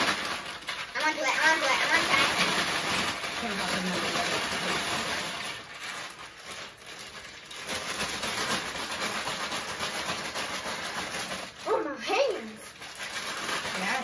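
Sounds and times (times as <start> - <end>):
ice rattling in shaken plastic bag: 0.0 - 14.0.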